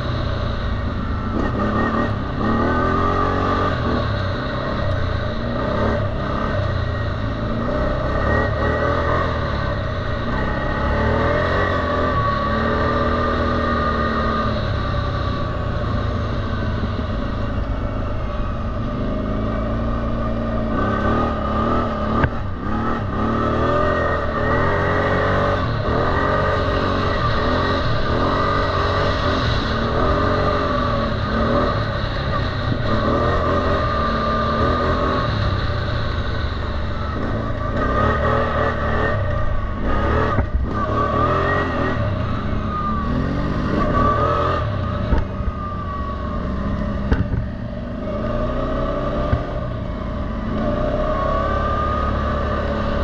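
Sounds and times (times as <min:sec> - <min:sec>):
quad bike engine revving: 0:01.0 - 0:53.0.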